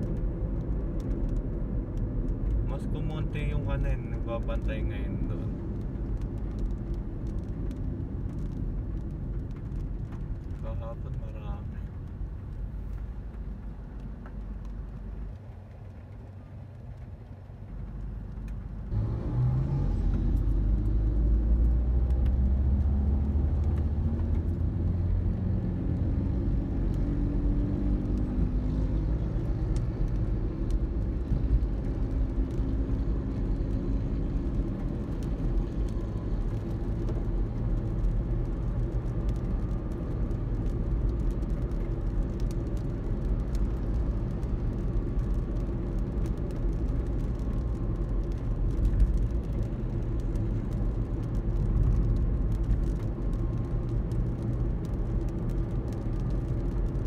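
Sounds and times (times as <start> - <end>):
car engine inside cabin: 0.0 - 57.0
tyre road noise: 0.0 - 57.0.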